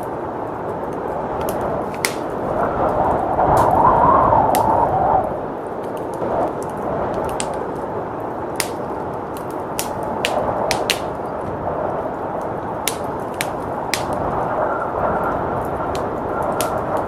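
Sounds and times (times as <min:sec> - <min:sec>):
blizzard wind: 0:00.0 - 0:17.0
wood fire crackling: 0:00.0 - 0:17.0.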